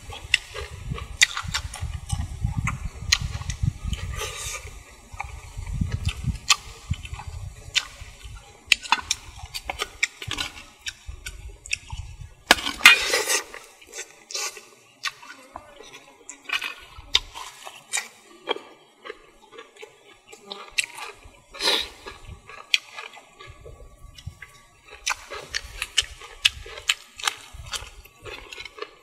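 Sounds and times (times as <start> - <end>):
wet chewing and lip-smacking: 0.1 - 12.2, 12.8 - 29.0.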